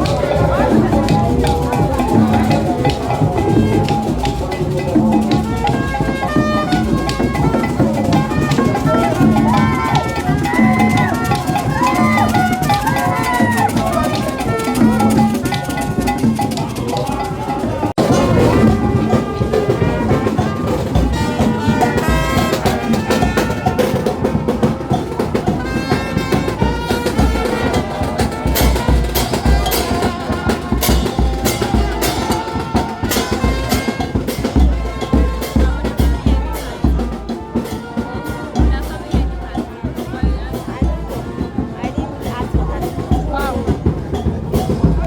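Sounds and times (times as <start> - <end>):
music with drums and percussion: 0.0 - 45.0.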